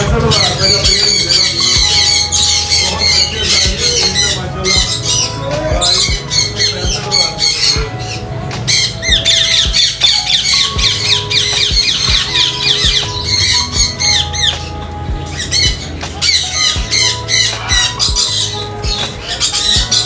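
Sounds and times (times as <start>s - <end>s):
background music: 0.0s - 20.0s
parrots screeching and chattering: 0.0s - 20.0s.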